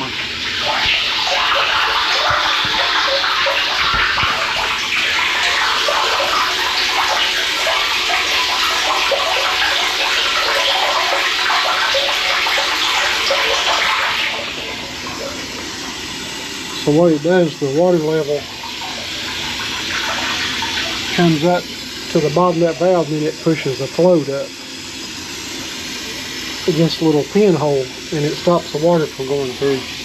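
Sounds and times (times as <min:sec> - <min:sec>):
water splashing into tank: 0:00.0 - 0:30.0.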